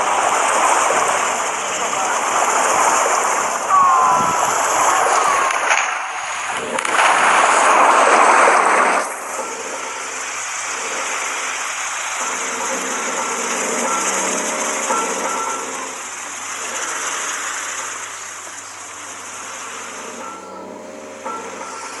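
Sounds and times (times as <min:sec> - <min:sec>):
rushing splashing water: 0:00.0 - 0:22.0.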